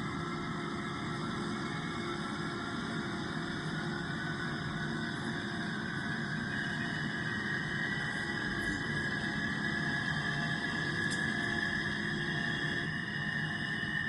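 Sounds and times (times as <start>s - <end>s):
airliner engines droning in cabin: 0.0s - 14.0s.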